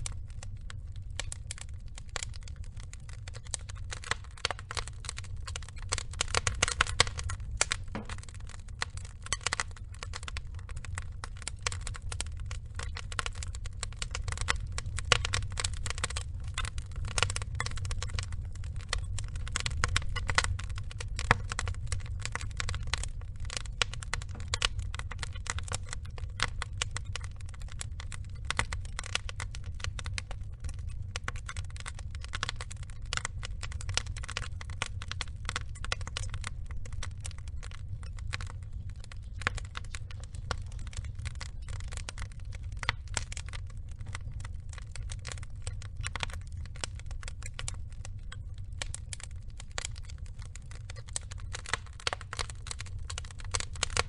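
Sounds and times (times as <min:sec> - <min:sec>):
burning logs crackling: 0:00.0 - 0:54.0
fire pops: 0:00.0 - 0:54.0.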